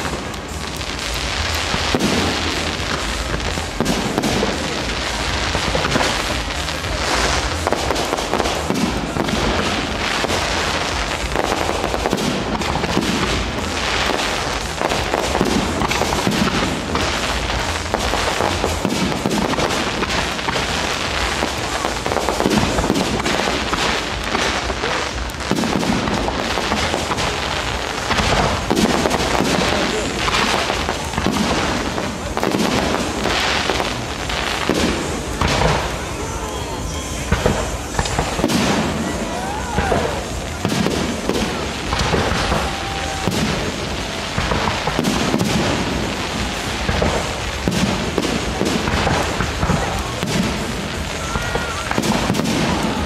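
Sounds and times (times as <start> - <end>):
fireworks bursting: 0.0 - 53.0.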